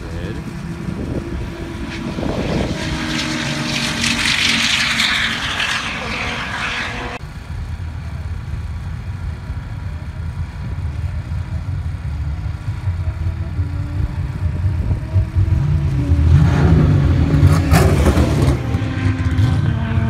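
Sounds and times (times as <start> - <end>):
low steady rumble: 0.0 - 18.0
race car engines roaring: 0.0 - 20.0.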